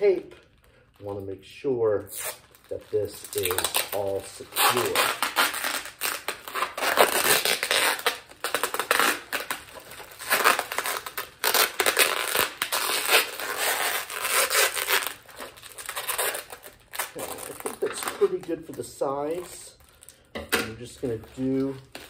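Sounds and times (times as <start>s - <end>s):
bubble wrap crinkling: 0.0s - 22.0s
packing tape ripping off roll: 2.0s - 22.0s.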